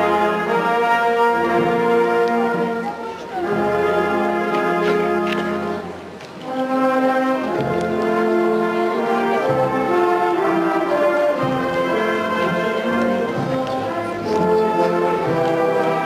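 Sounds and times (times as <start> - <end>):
brass band playing slow march: 0.0 - 16.0.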